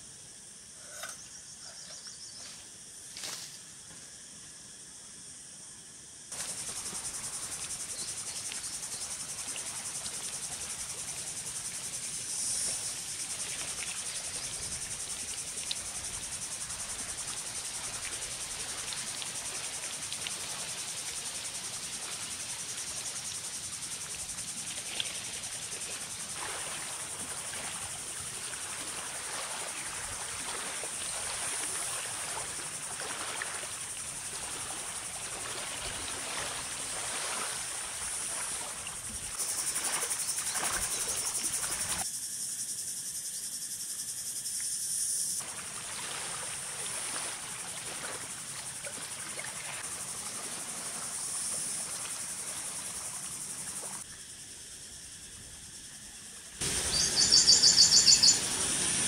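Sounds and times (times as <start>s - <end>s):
high-pitched insect chorus: 0.0s - 59.0s
outdoor background noise: 0.0s - 59.0s.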